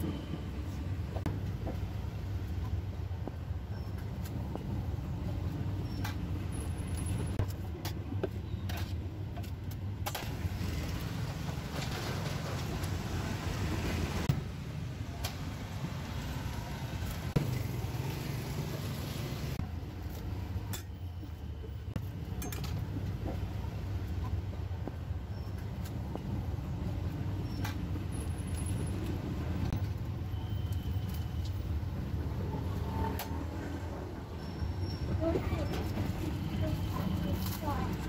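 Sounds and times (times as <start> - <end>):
traffic engine rumble: 0.0 - 38.0
vehicles passing: 0.0 - 38.0.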